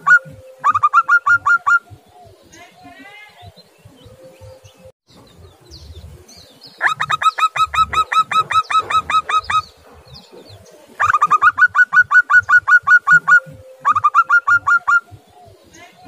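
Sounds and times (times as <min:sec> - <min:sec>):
dove calling rapid rising notes: 0:00.0 - 0:16.0.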